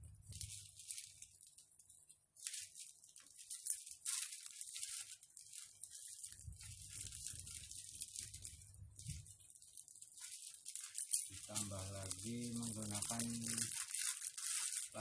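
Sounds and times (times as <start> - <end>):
packaging rustling and crinkling: 0.0 - 15.0.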